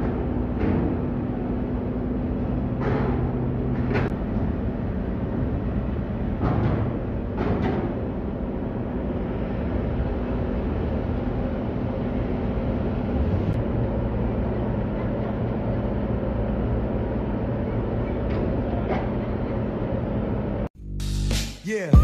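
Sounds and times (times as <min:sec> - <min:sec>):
ship engines droning: 0:00.0 - 0:20.7.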